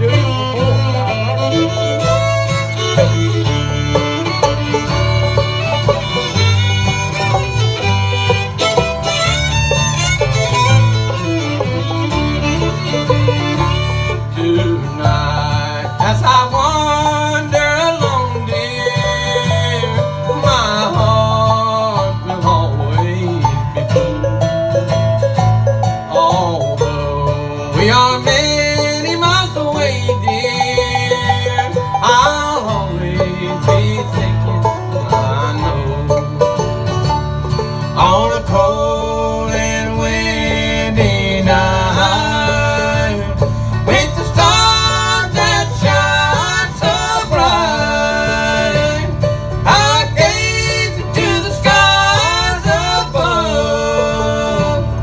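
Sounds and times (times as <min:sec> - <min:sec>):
bluegrass string band playing: 0:00.0 - 0:55.0.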